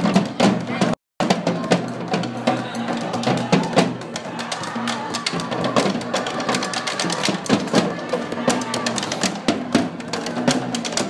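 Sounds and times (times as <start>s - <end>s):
snare drums playing together: 0.0s - 11.0s.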